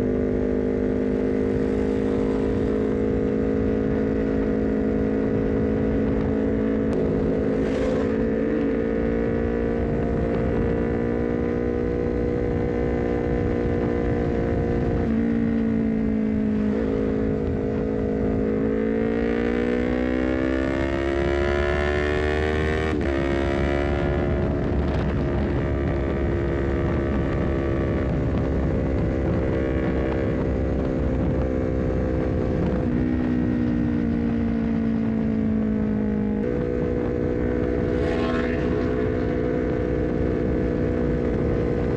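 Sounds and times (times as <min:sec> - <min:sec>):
engine accelerating and upshifting: 0:00.0 - 0:30.6, 0:36.1 - 0:41.9
motorcycle engine cruising: 0:00.0 - 0:41.9.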